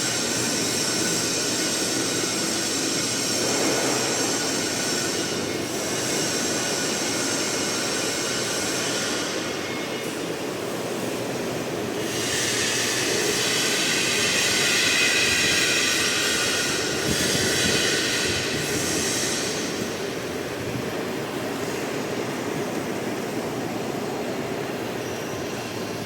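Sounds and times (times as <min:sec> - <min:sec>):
machine noise: 0:00.0 - 0:26.0.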